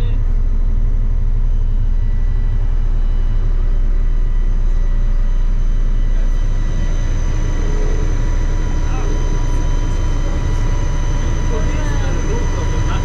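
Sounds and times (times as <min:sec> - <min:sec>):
boat engine droning: 0:00.0 - 0:13.0
faint high whine: 0:00.0 - 0:13.0.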